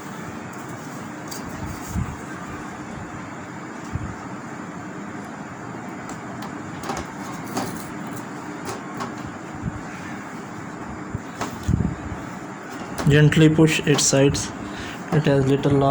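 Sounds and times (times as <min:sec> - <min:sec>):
steady background hiss: 0:00.0 - 0:15.9.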